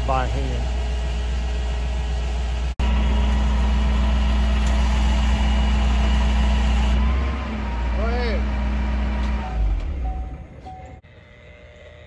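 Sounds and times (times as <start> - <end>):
truck engine idling: 0.0 - 11.4.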